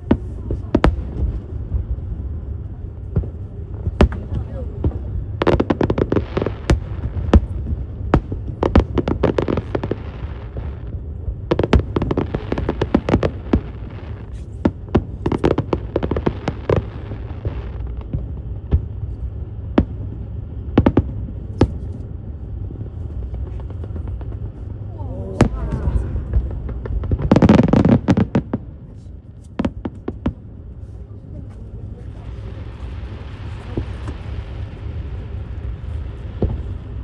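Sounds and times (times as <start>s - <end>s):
fireworks bangs and crackling: 0.0s - 37.0s
low rumble: 0.0s - 37.0s.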